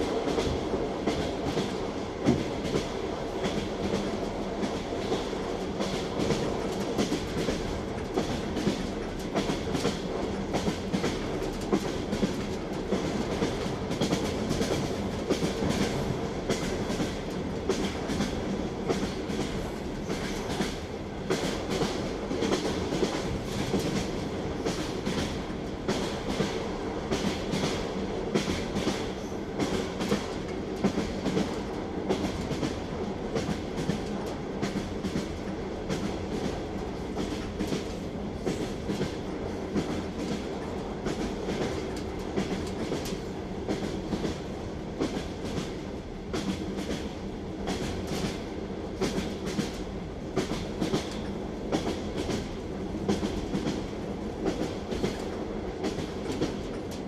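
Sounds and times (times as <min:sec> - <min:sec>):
train wheels clattering: 0:00.0 - 0:57.0.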